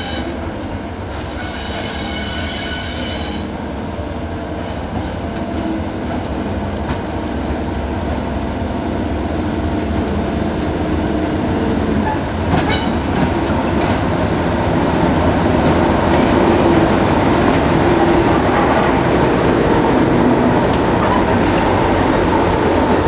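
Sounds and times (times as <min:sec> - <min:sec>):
diesel locomotive engine droning: 0:00.0 - 0:23.0.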